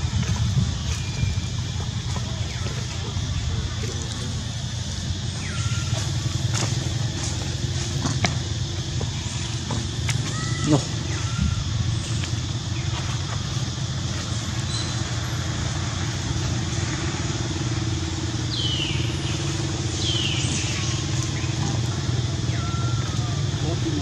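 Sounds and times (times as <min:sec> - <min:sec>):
high falling chirps: 0:00.0 - 0:24.0
low motor hum: 0:00.0 - 0:24.0.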